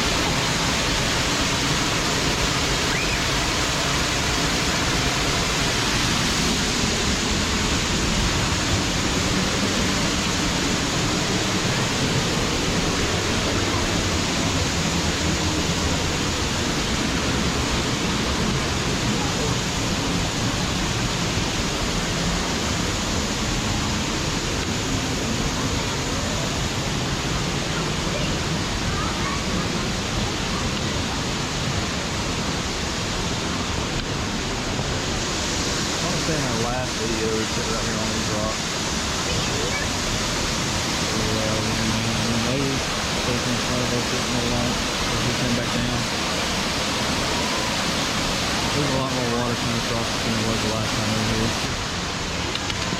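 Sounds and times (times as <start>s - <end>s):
waterfall pouring onto rocks: 0.0s - 52.9s.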